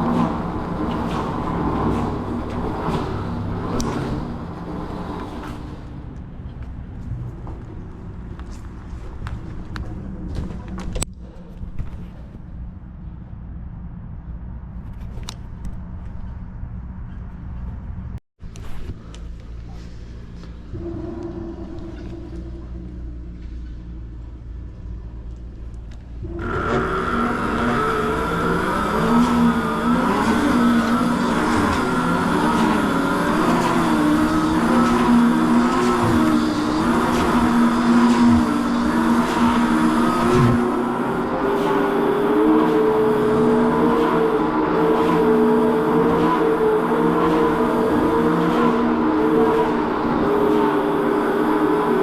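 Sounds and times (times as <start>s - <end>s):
loud vehicle whine: 0.0s - 11.6s, 15.2s - 52.0s
low vehicle rumble: 0.0s - 52.0s
road noise: 0.0s - 52.0s.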